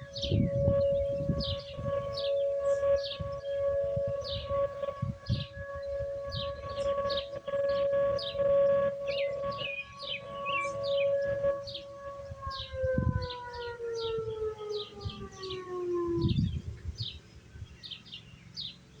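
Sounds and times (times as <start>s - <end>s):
warning siren winding down: 0.0s - 17.1s
birds chirping: 0.0s - 19.0s.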